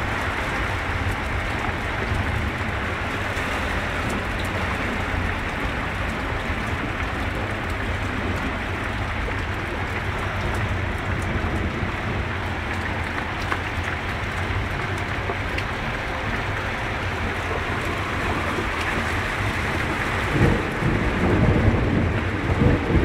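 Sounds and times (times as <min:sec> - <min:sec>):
heavy rain hissing: 0:00.0 - 0:23.0
raindrop ticks: 0:00.0 - 0:23.0.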